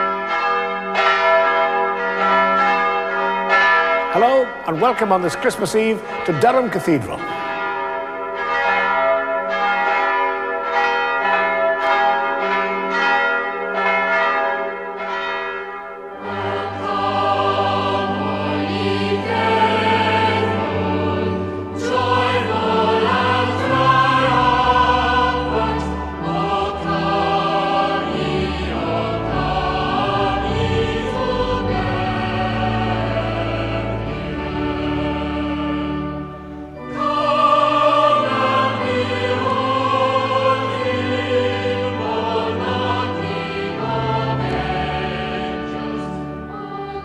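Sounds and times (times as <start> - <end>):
bells ringing: 0.0 - 47.0
church choir singing: 0.0 - 47.0.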